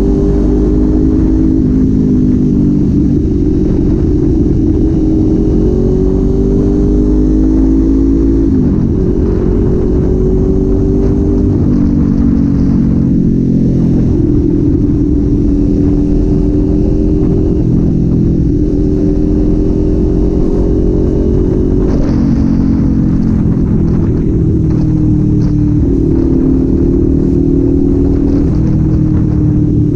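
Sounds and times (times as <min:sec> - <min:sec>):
motorcycle engine cruising: 0:00.0 - 0:29.9.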